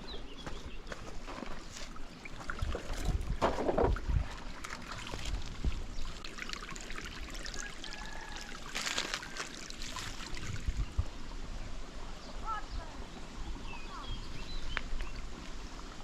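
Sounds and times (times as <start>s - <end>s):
water trickling in stream: 0.3s - 16.0s.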